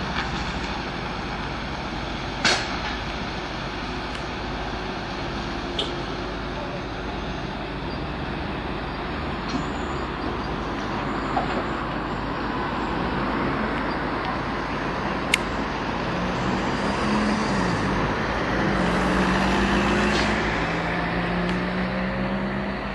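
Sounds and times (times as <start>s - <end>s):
heavy vehicle engine running: 0.0s - 22.9s
traffic noise: 0.0s - 22.9s.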